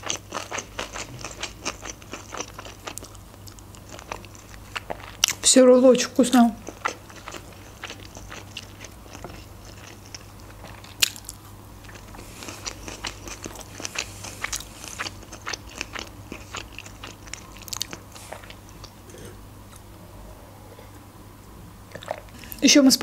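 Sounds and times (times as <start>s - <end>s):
chewing: 0.0s - 5.4s, 6.6s - 19.9s, 21.9s - 22.5s.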